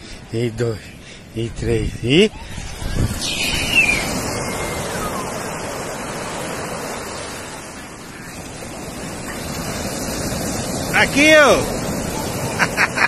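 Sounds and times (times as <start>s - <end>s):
ocean surf on a beach: 0.0s - 13.0s.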